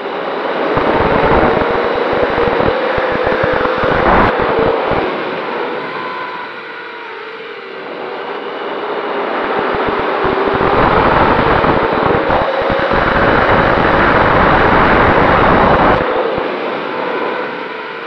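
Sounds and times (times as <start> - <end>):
wind rushing over microphone: 0.0 - 6.6, 7.9 - 18.0
drone motors whining: 0.6 - 16.1.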